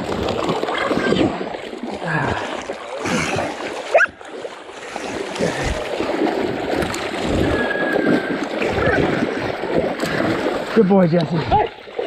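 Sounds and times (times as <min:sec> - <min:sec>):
dogs splashing in shallow water: 0:00.0 - 0:12.0.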